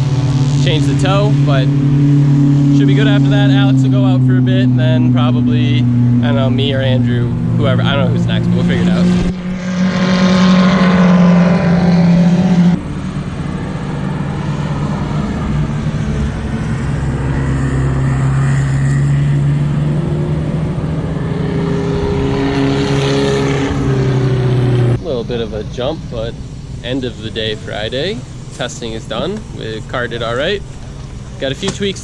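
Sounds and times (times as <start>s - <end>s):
race car engines: 0.0s - 32.0s.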